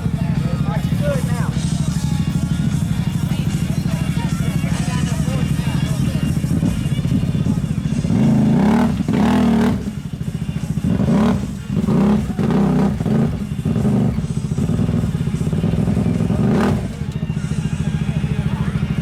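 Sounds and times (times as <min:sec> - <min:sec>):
utv engine revving: 0:00.0 - 0:19.0.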